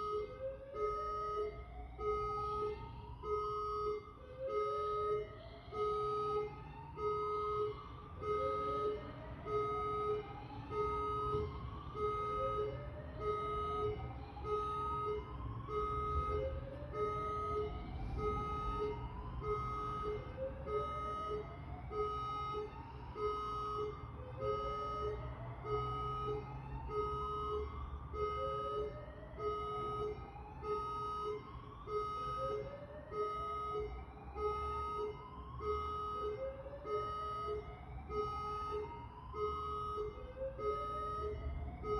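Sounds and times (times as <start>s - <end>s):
whooping electronic alarm: 0.0s - 41.9s.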